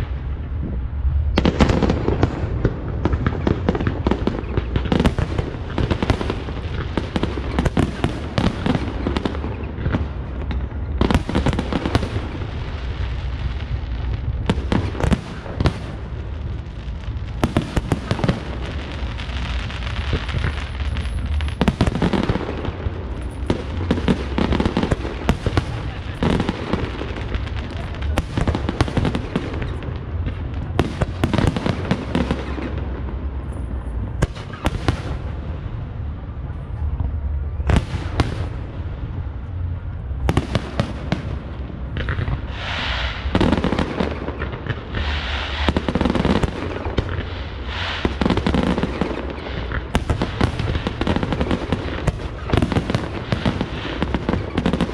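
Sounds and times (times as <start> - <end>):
fireworks bursting: 0.0 - 54.9.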